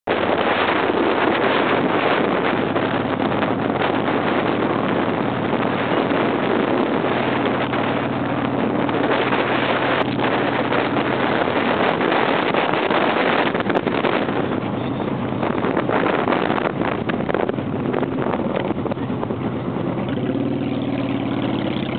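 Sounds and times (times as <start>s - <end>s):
wind rushing over microphone: 0.0s - 21.9s
motorcycle engine running: 0.1s - 21.9s.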